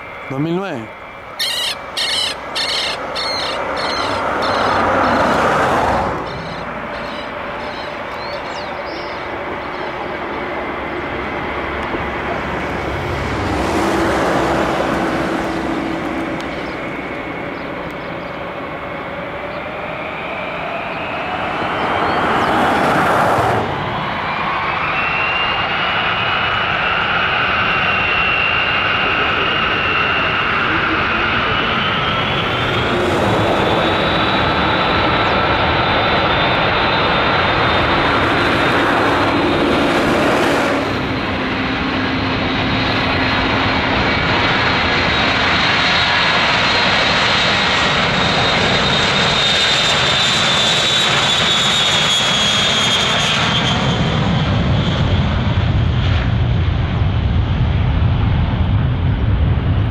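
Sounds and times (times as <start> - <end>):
high jet engine whine: 0.0 - 59.9
loud jet rumble: 0.0 - 59.9.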